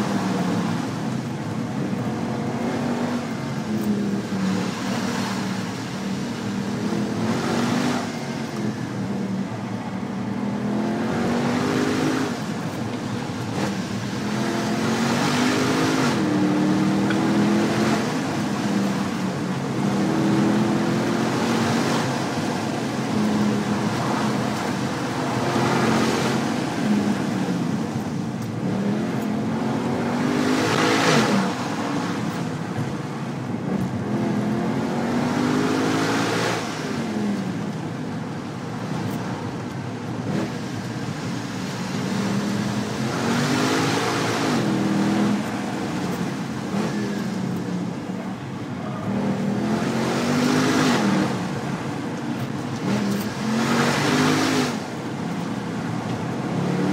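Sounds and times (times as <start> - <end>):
car engine accelerating: 0.0 - 37.8, 38.6 - 56.9
tyre and road noise: 0.0 - 56.9.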